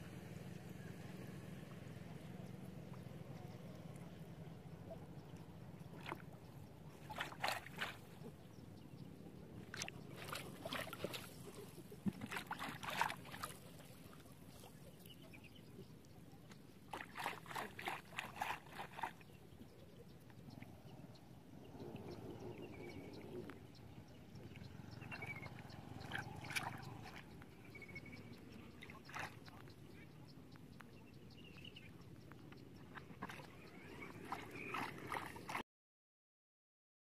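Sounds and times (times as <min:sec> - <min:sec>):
water splashing and sloshing: 0:01.6 - 0:20.8, 0:21.5 - 0:30.6, 0:31.5 - 0:35.6.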